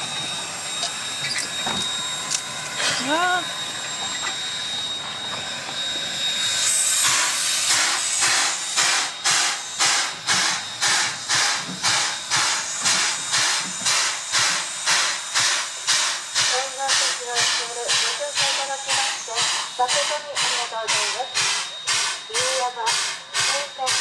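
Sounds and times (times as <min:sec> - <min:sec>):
steam hissing: 0:00.0 - 0:24.0
steam locomotive chuffing: 0:00.0 - 0:24.0.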